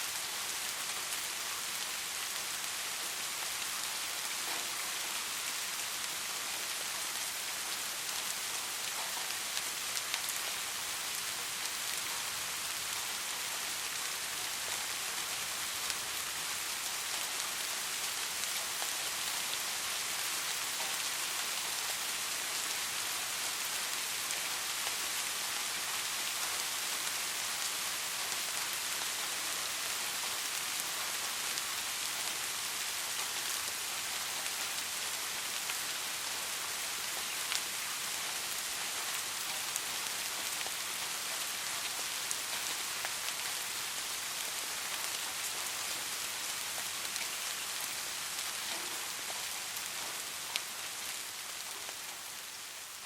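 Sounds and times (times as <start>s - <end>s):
soft rain falling: 0.0s - 53.0s.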